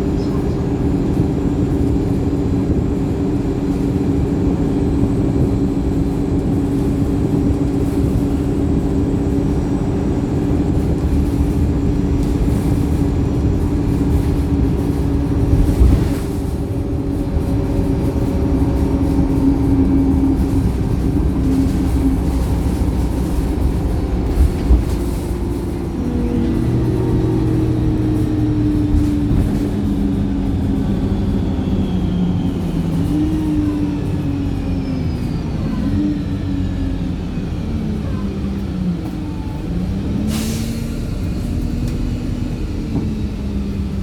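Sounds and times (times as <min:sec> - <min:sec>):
bus engine drone: 0:00.0 - 0:44.0.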